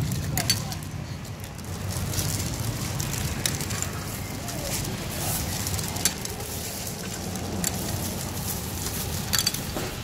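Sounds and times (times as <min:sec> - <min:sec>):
plastic bag crinkling: 0:00.0 - 0:09.8
low street hum: 0:00.0 - 0:10.0.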